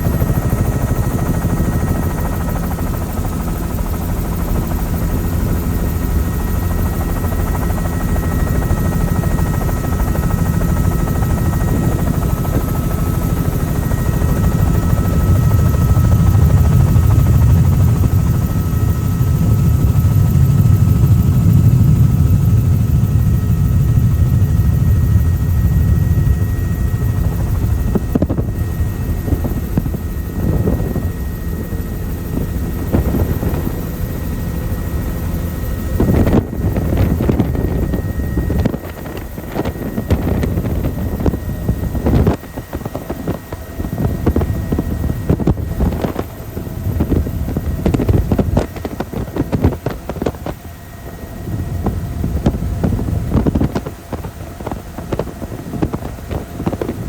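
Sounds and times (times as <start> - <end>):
helicopter rotor and engine drone: 0.0 - 57.0
wind buffeting microphone: 0.0 - 57.0.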